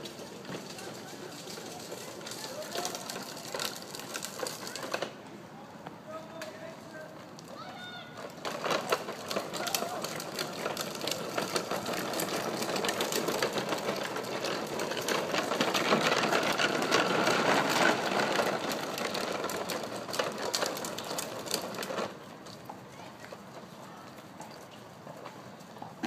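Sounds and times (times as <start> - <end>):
plastic wheels rattling on concrete: 0.0 - 5.3, 6.0 - 26.0.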